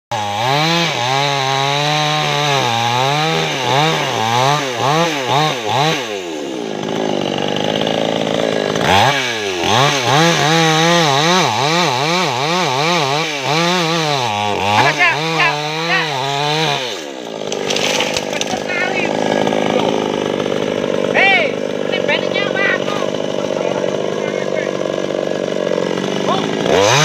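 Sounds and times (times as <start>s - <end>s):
chainsaw cutting wood: 0.1s - 27.0s.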